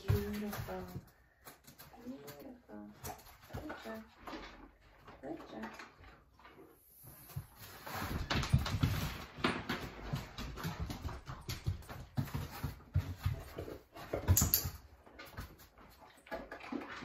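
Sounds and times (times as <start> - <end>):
dog paws tapping on floor: 0.0 - 17.0.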